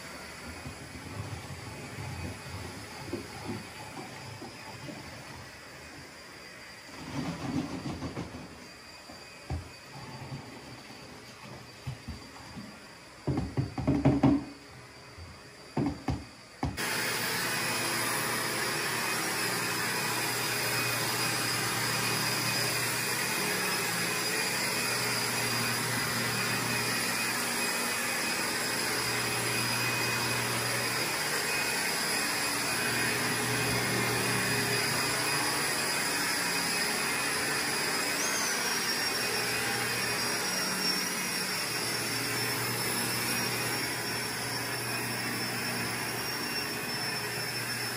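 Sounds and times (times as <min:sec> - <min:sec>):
vacuum suction running: 0:00.0 - 0:47.9.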